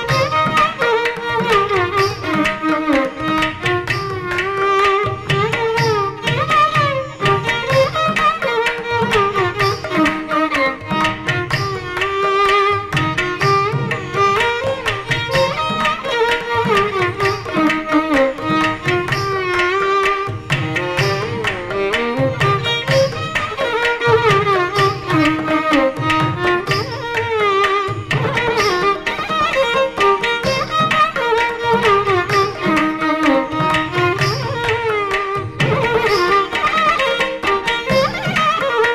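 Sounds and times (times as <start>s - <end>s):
violin melody: 0.0s - 38.9s.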